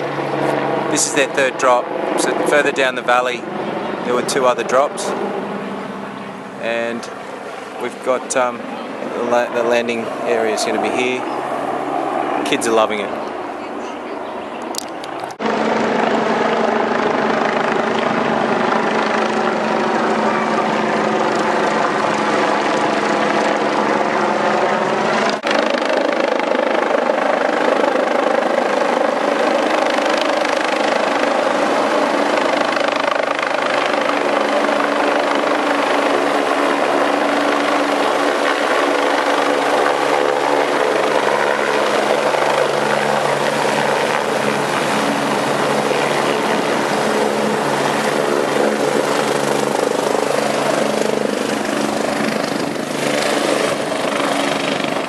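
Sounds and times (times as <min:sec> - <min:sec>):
helicopter rotor and turbine engines: 0:00.0 - 0:55.0.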